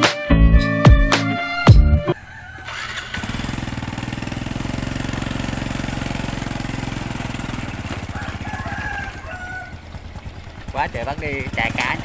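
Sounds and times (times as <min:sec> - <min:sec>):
small engine running: 0:02.2 - 0:12.0.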